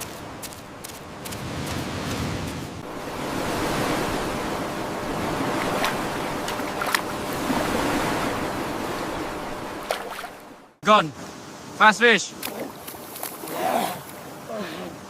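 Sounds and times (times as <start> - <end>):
surf washing: 0.0 - 15.0.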